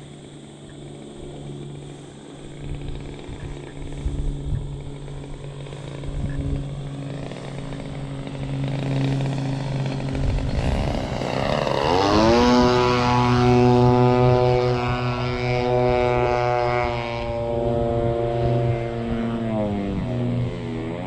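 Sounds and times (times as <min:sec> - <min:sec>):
model plane motor and propeller: 0:00.0 - 0:21.0
wind rumble on microphone: 0:01.2 - 0:21.0.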